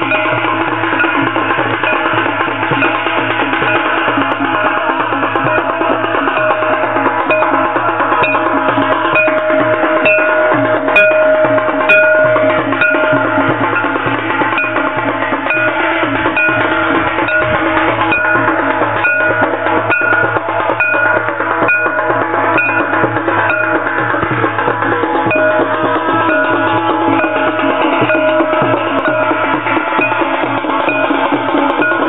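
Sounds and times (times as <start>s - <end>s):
drums playing fast beat: 0.0s - 32.0s
ringing metal percussion: 0.0s - 32.0s.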